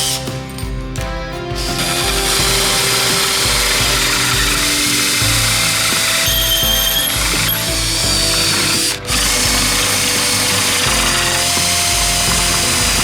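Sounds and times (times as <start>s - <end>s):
background music: 0.0s - 13.0s
power tool running: 0.0s - 13.0s.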